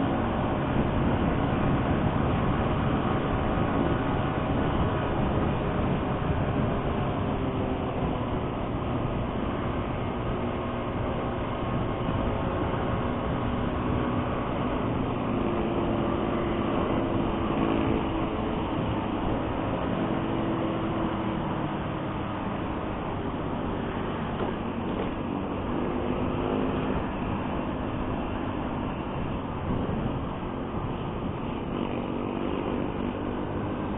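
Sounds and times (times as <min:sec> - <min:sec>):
road noise: 0:00.0 - 0:33.9
vehicle engine running: 0:00.0 - 0:33.9.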